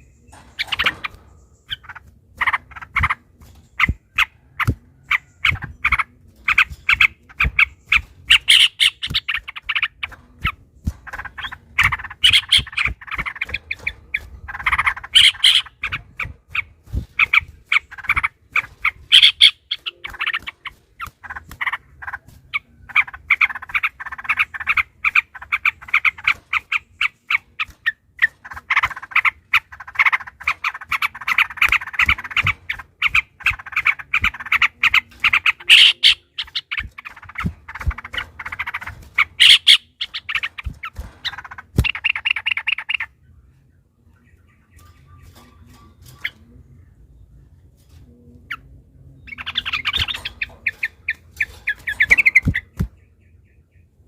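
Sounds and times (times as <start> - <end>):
bulbuls singing chattering notes: 0.0 - 54.0.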